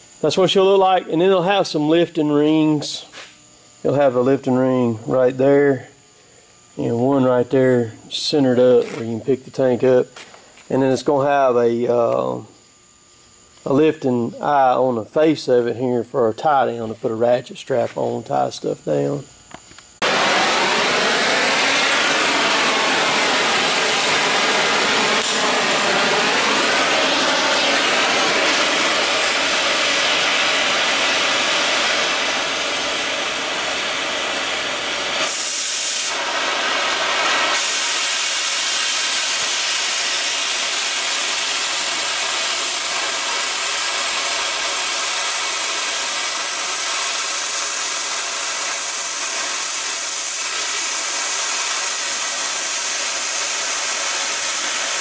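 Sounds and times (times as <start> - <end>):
cutting torch hissing: 0.0 - 12.4, 20.0 - 55.0.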